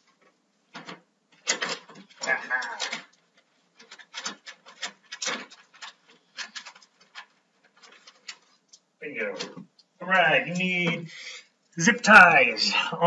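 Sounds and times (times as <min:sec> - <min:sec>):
hands rummaging through small objects: 0:00.0 - 0:11.0.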